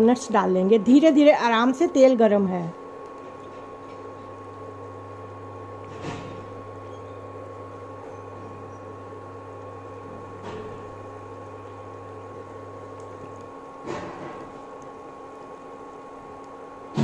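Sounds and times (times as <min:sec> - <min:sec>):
electrical hum of cooktop: 0:00.0 - 0:17.0.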